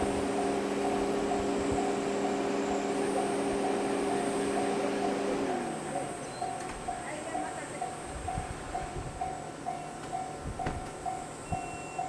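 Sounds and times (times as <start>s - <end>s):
level-crossing bell clanging: 0.0s - 12.0s.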